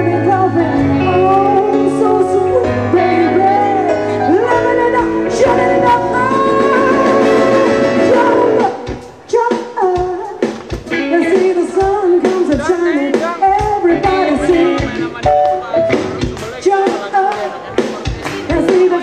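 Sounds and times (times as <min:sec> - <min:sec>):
woman singing: 0:00.0 - 0:15.0, 0:16.6 - 0:17.8, 0:18.4 - 0:19.0
soul band playing: 0:00.0 - 0:19.0.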